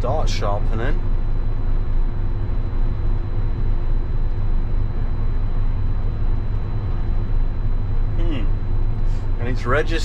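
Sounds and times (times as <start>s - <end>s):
faint steady hum: 0.0s - 10.0s
harvester low drone: 0.0s - 10.0s.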